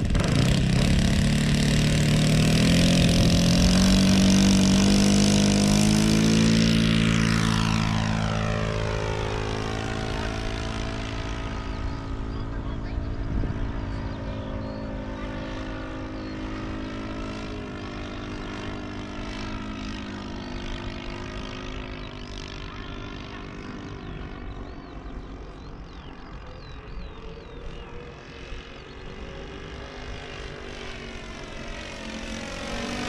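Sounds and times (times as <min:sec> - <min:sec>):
model airplane engine and propeller: 0:00.0 - 0:33.0.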